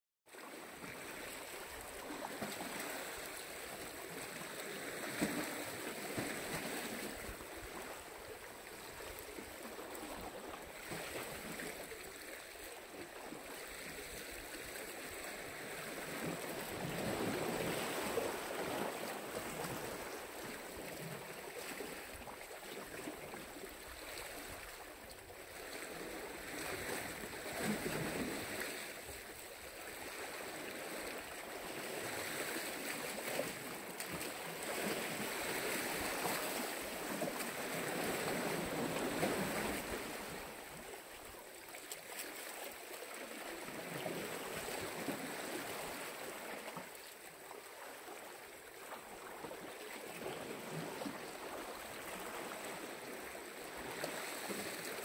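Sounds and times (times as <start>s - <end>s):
waves washing onto shore: 0.3s - 55.0s.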